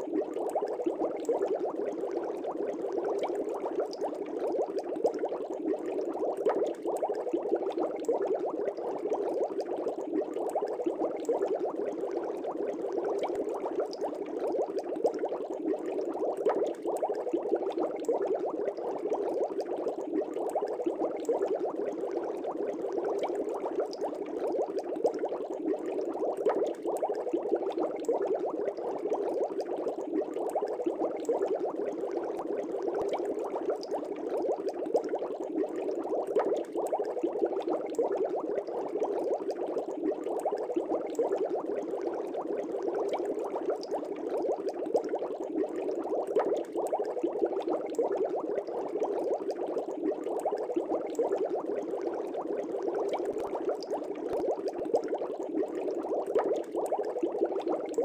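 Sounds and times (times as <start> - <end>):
air bubbles in fish tank: 0.0 - 58.0.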